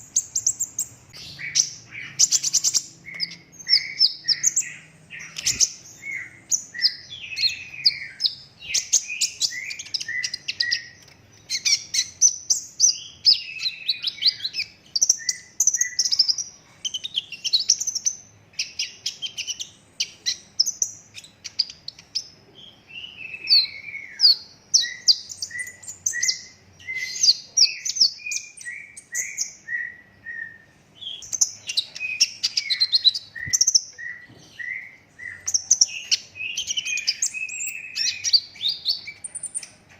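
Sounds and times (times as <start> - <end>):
bird twittering: 0.0 - 39.8.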